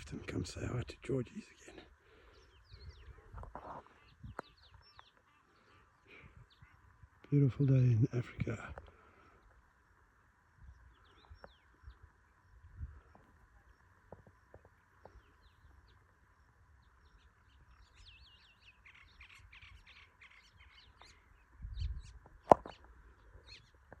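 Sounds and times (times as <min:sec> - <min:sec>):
wild birds chirping and whistling: 0:00.0 - 0:24.0.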